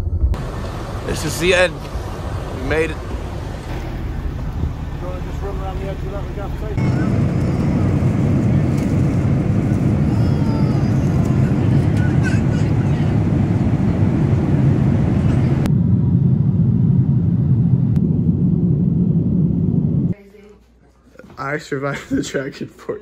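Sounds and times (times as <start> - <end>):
engine and airflow rumble: 0.0 - 20.2.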